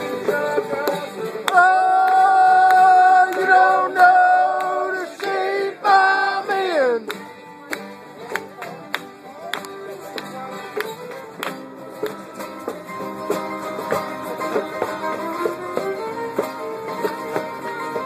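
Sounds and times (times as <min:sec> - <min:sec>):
acoustic string band playing: 0:00.0 - 0:18.0.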